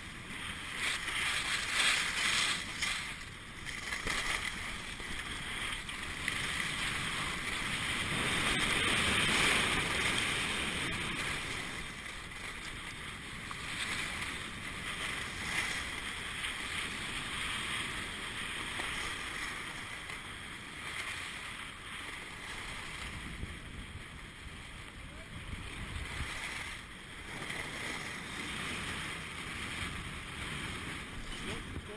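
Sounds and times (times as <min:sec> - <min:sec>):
skis scraping over snow: 0:00.0 - 0:23.6, 0:25.1 - 0:31.9
wind noise on microphone: 0:00.0 - 0:31.9.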